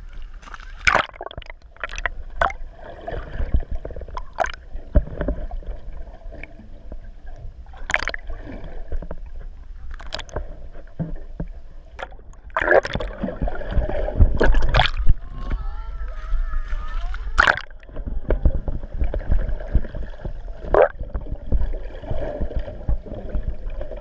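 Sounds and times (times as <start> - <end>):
underwater low rumble: 0.0 - 24.0
water sloshing: 0.0 - 24.0.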